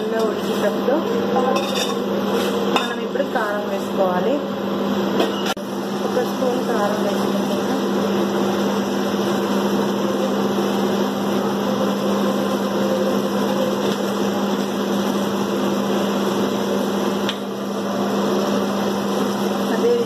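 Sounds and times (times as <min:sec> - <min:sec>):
machine-like hum: 0:00.0 - 0:20.0.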